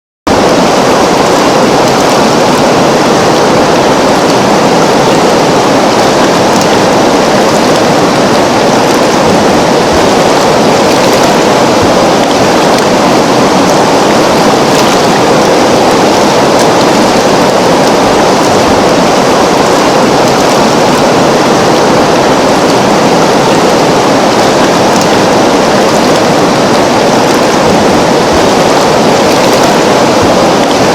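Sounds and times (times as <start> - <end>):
river water rushing: 0.3 - 30.9.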